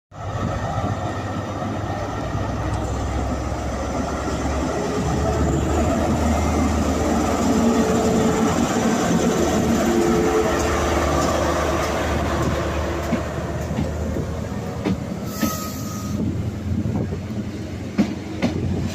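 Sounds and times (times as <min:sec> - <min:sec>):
diesel train engine droning: 0:00.2 - 0:18.9.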